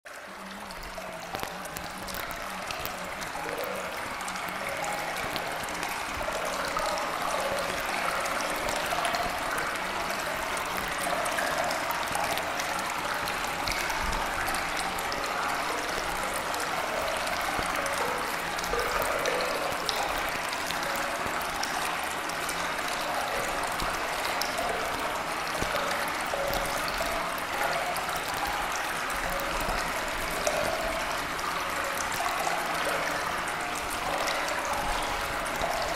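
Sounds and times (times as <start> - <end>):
trickling running water: 0.1 - 35.9.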